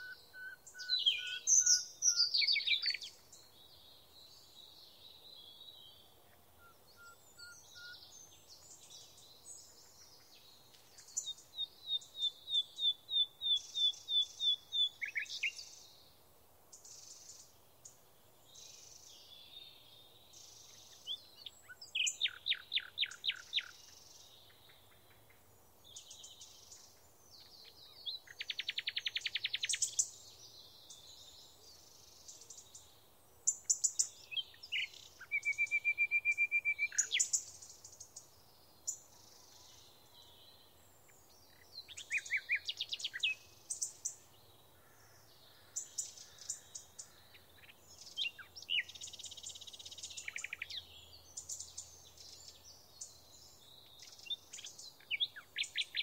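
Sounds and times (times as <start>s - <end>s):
small birds chirping and trilling: 0.0s - 56.0s.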